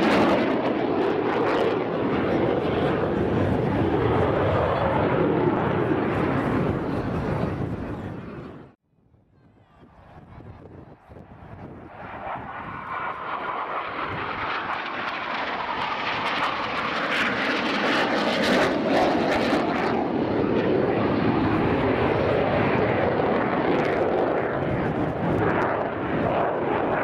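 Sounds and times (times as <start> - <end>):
jet engine flying past: 0.0 - 8.8, 9.8 - 27.0.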